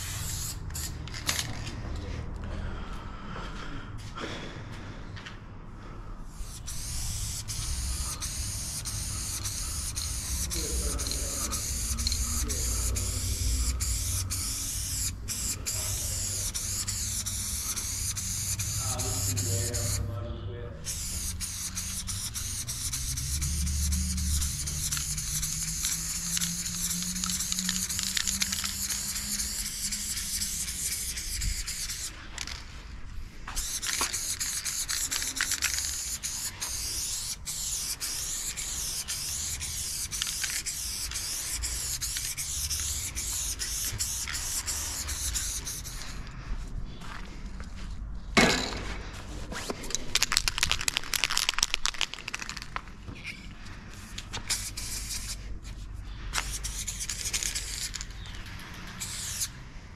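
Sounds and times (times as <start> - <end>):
spray paint can hissing: 0.0 - 1.6, 6.3 - 20.1, 20.8 - 32.7, 33.5 - 46.2, 49.8 - 52.8, 54.0 - 59.6.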